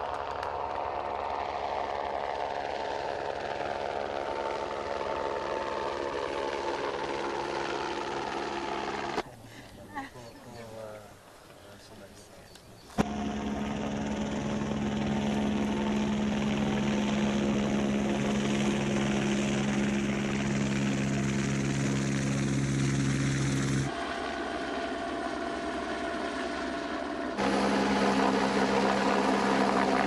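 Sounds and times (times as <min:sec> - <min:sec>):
propeller aircraft hum: 0:00.0 - 0:09.2, 0:12.5 - 0:30.0.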